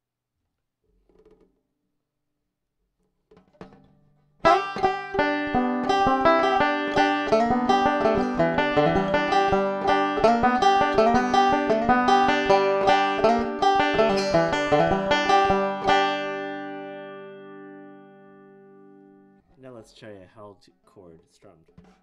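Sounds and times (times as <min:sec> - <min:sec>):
banjo fingerpicked notes: 0:03.3 - 0:20.0, 0:20.6 - 0:22.0.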